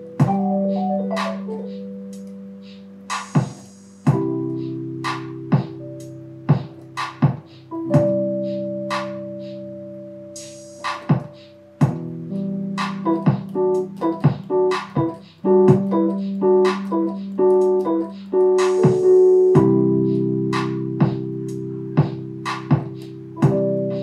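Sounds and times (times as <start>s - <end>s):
digital piano playing: 0.0s - 24.0s.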